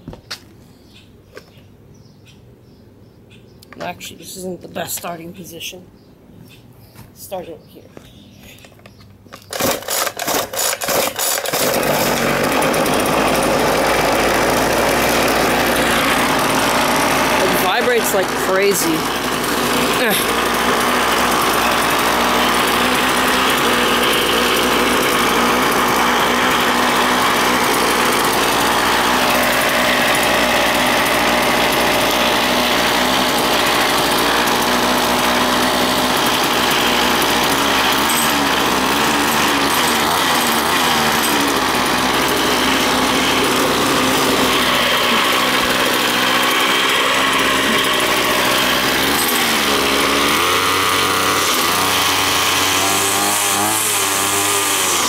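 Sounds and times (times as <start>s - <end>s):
string trimmer engine running: 9.4s - 55.0s.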